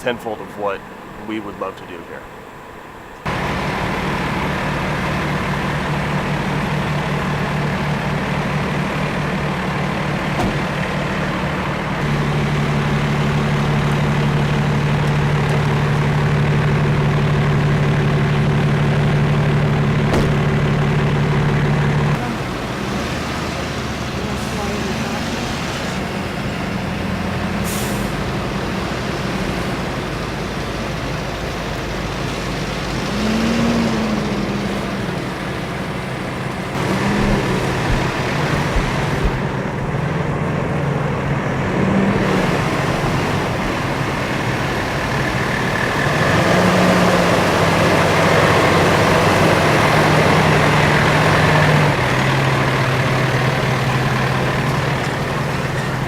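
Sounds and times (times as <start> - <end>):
truck diesel engines running: 0.0 - 56.0.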